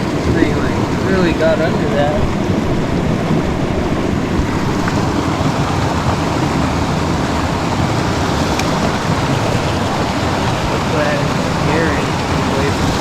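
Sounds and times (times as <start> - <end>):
fast creek water rushing: 0.0 - 13.0.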